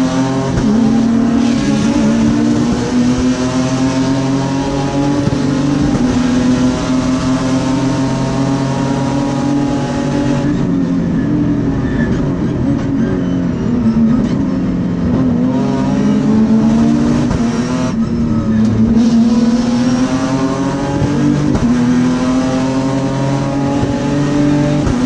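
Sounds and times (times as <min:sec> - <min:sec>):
race car engine running hard: 0:00.0 - 0:25.0.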